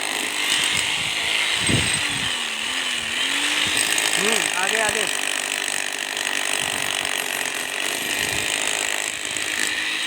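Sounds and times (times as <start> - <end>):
power tool rattling on concrete: 0.0 - 10.0.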